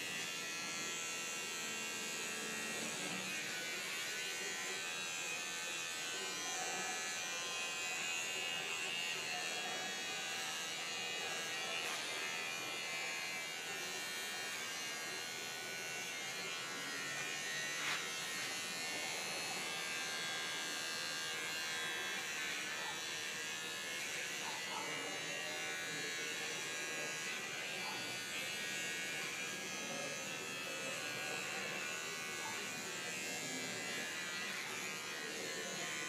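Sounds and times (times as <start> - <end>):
electric hair clippers buzzing: 0.0 - 36.0.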